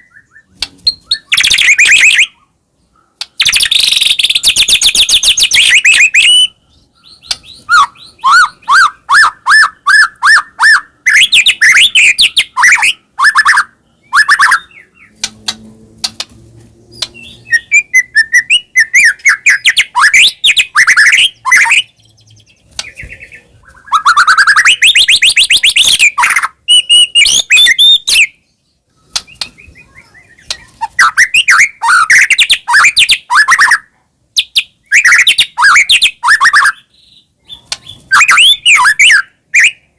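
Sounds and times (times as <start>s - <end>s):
songbird whistling and chattering: 0.0s - 2.5s, 3.2s - 15.3s, 16.9s - 39.9s.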